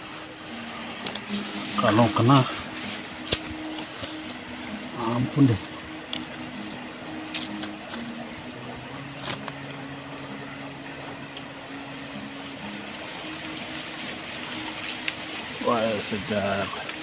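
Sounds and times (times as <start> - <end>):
constant hiss: 0.0 - 17.0
engine humming: 0.0 - 17.0.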